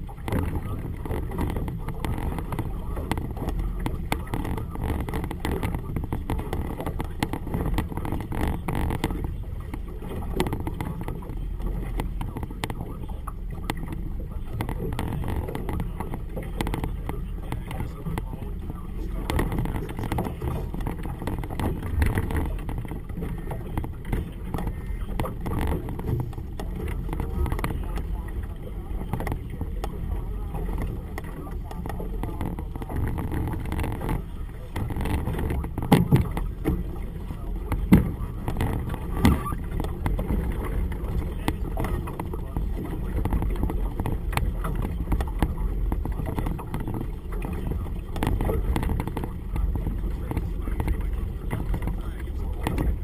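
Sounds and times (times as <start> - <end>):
outboard motor rumbling: 0.0 - 53.0
water slapping against hull: 0.0 - 53.0.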